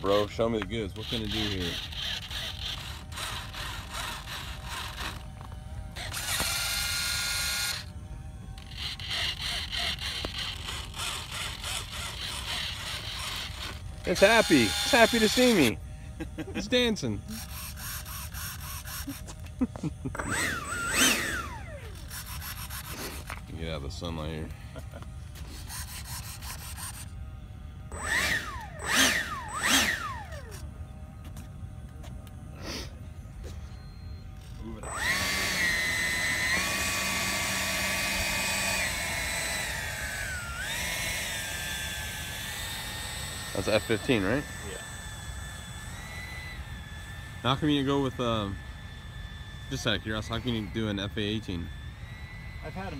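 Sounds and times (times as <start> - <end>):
electric servo whine: 0.0 - 52.9.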